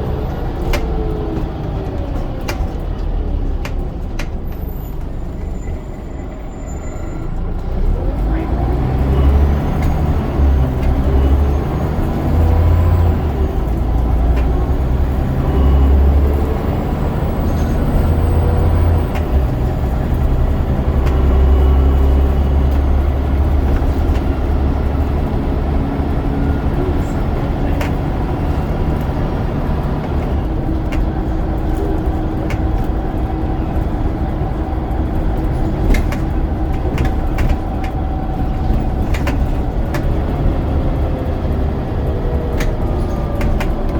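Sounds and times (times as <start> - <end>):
bus diesel engine under load: 0.0 - 43.9.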